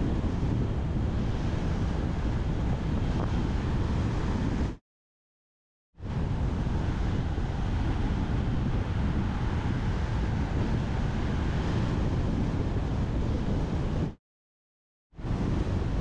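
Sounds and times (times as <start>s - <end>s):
wind buffeting microphone: 0.0s - 4.8s, 6.0s - 14.2s, 15.2s - 16.0s.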